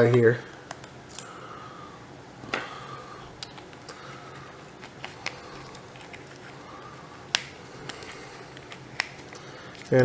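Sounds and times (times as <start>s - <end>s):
faint steady background noise: 0.0s - 10.0s.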